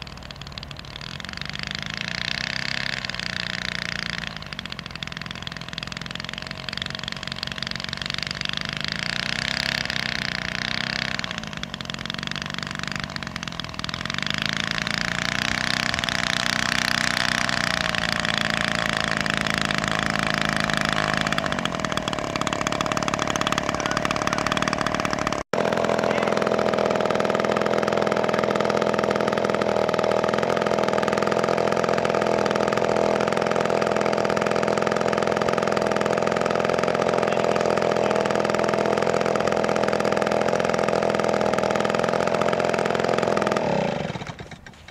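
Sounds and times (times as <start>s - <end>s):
model plane engine running: 0.0s - 44.8s.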